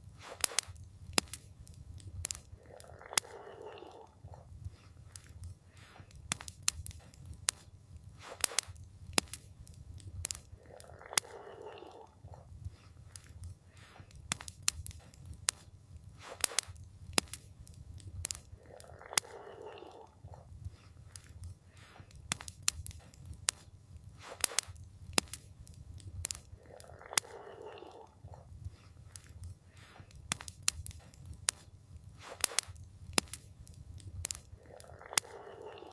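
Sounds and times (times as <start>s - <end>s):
campfire crackling: 0.0s - 35.9s.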